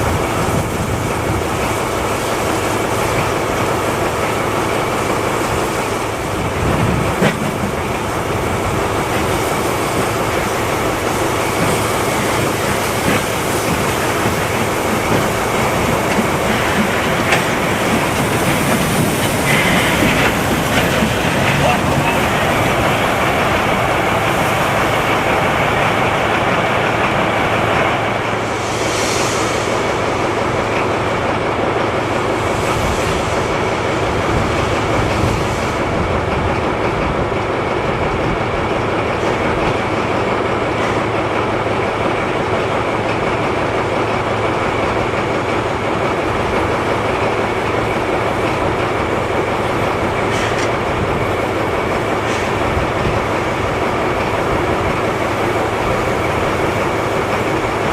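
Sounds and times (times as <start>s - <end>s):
high steam hisses: 0.0s - 57.9s
steam locomotive rail rumble: 0.0s - 57.9s.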